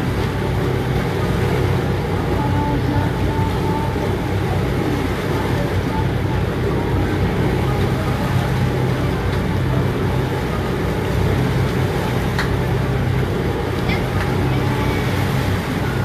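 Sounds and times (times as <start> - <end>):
boat engine running: 0.0 - 16.0
water noise: 0.0 - 16.0.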